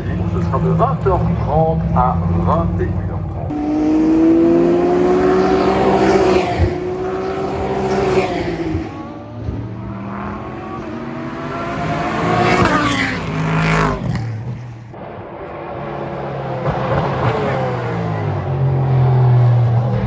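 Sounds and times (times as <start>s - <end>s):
race cars passing at speed: 0.0s - 20.0s.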